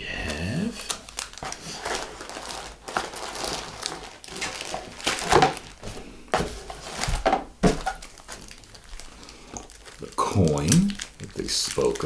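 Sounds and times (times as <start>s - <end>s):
plastic packaging crinkling: 0.2s - 12.0s.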